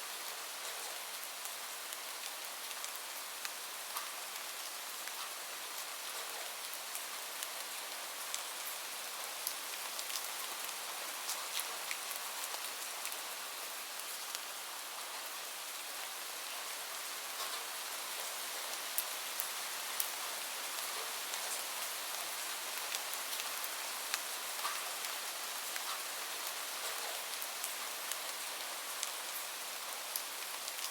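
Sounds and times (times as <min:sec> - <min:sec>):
gentle rain hiss: 0:00.0 - 0:30.9.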